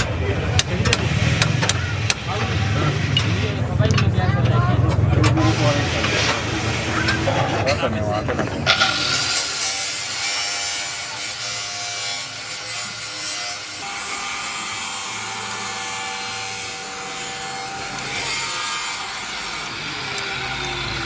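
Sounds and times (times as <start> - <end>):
rasping hissing work noise: 0.0 - 21.0.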